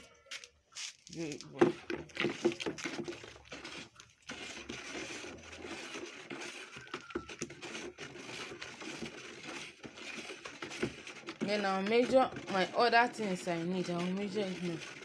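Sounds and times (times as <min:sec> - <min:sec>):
stick swishing water: 0:00.8 - 0:15.0
stick knocking bucket: 0:01.4 - 0:15.0.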